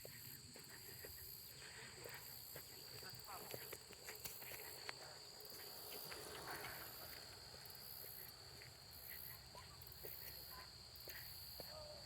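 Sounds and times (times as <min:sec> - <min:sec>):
soft footsteps: 0:00.0 - 0:11.8.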